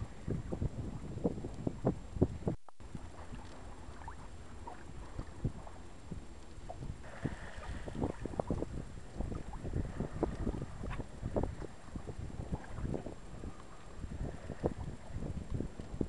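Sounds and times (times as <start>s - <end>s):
water splashing against hull: 0.0s - 16.0s
wind buffeting microphone: 0.0s - 16.0s.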